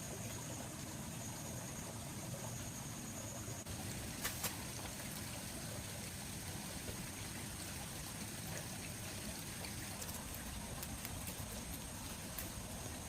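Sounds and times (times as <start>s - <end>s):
flowing water: 0.0s - 13.0s.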